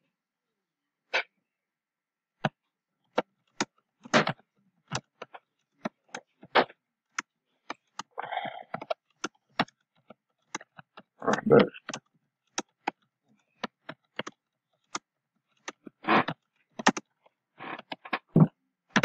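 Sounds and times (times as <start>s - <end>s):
keyboard typing: 2.4s - 19.0s.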